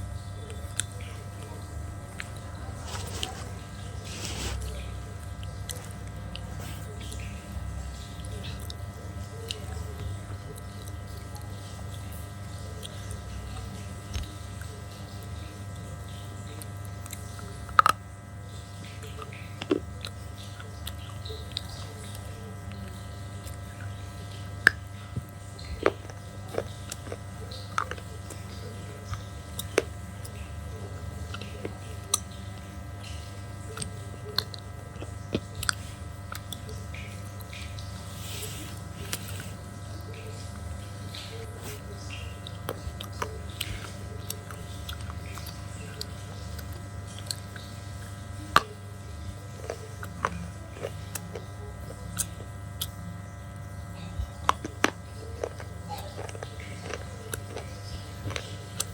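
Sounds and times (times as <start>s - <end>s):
steady low hum: 0.0s - 58.9s
slate crunching while chewed: 0.1s - 58.9s.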